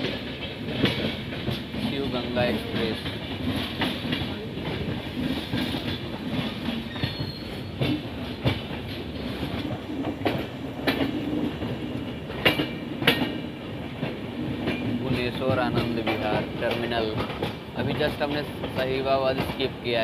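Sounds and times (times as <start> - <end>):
train rumbling: 0.0 - 20.0
wheels clacking over rail joints: 0.0 - 20.0.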